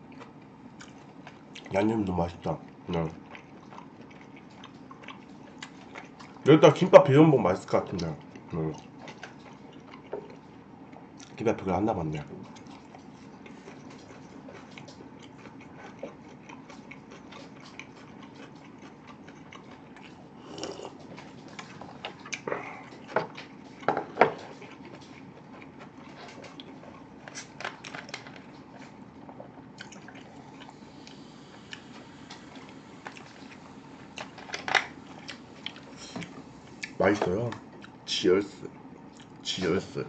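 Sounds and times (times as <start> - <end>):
person chewing food: 0.0 - 6.5, 7.8 - 11.4, 12.1 - 38.1, 38.7 - 39.4.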